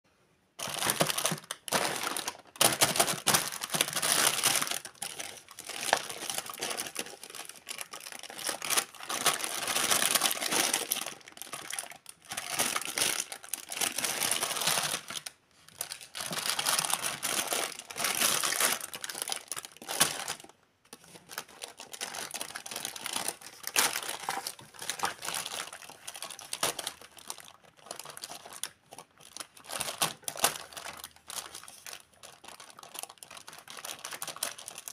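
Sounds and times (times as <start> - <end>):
plastic packaging crinkling: 0.6 - 34.9.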